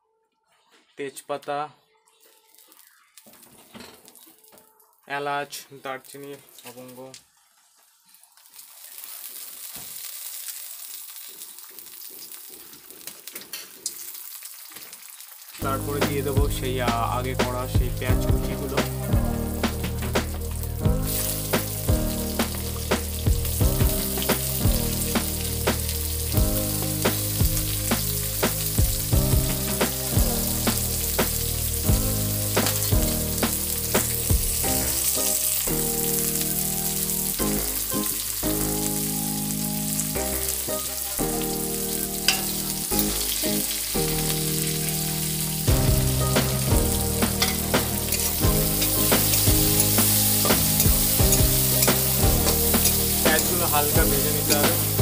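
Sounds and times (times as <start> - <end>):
onions and spices sizzling in oil: 2.1 - 55.0.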